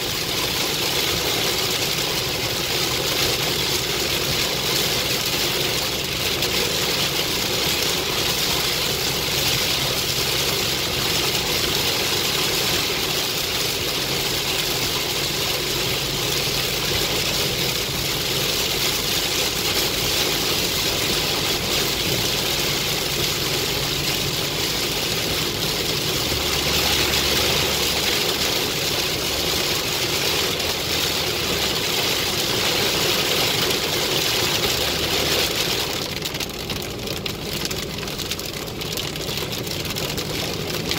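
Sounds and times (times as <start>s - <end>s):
heavy rain hitting car: 0.0s - 40.9s
tyres on wet road: 0.0s - 40.9s.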